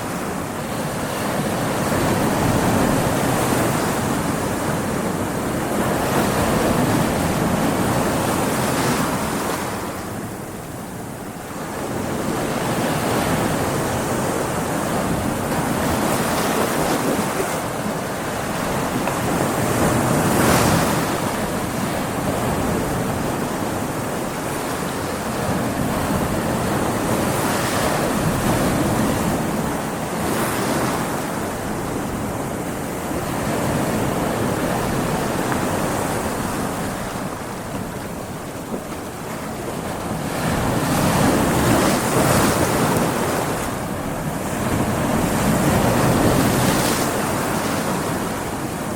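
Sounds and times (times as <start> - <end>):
ocean waves breaking on rocks: 0.0 - 48.9.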